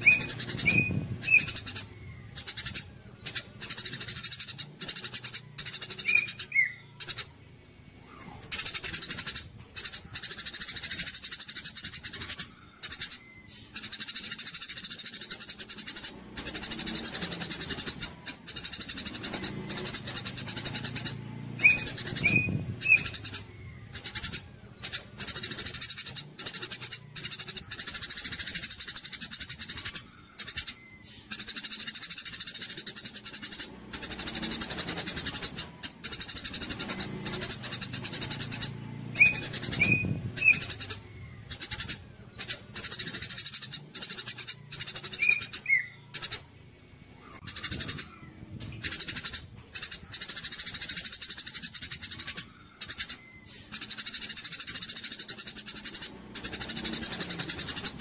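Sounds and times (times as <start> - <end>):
bird chirps: 0.0 - 58.0
songbird trilling: 0.0 - 58.0.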